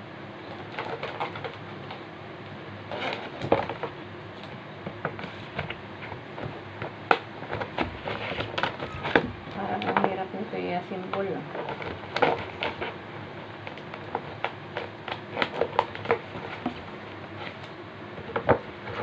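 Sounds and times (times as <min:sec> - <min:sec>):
plastic packaging crinkling: 0:02.9 - 0:19.0.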